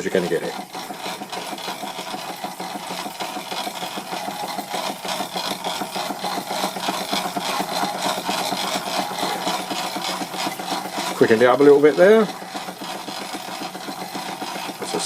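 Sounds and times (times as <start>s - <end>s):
model engine gear clattering: 0.0s - 15.0s.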